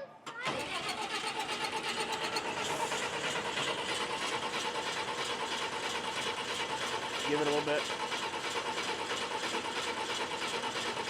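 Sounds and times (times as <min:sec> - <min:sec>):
diesel engine cranked by starter: 0:00.3 - 0:11.0.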